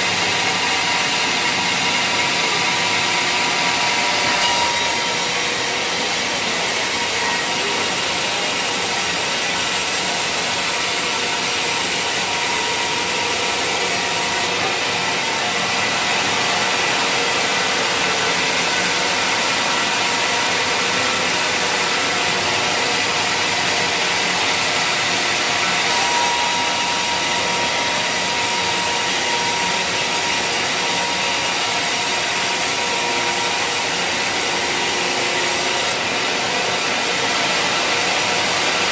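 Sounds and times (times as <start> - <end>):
saw blade cutting wood: 0.0 - 38.9.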